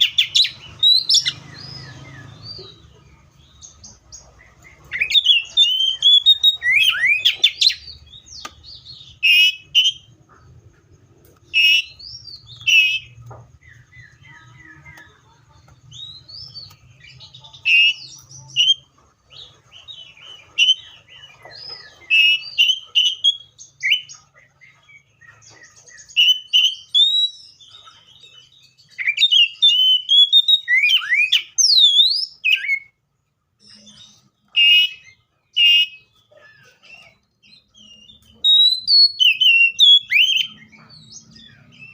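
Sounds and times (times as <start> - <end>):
bird singing whistles and chirps: 0.0 - 10.1, 11.4 - 15.1, 15.9 - 18.9, 19.8 - 33.0, 33.6 - 41.9.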